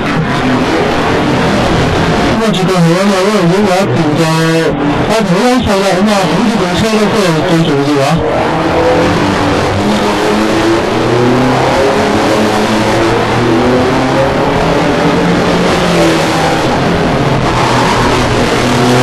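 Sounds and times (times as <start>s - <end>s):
racing car engines: 0.0s - 19.0s.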